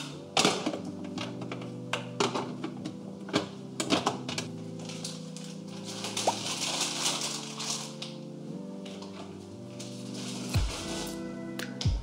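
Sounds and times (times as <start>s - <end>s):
plastic packaging rustling: 0.0s - 11.4s
soft background music: 0.0s - 12.0s.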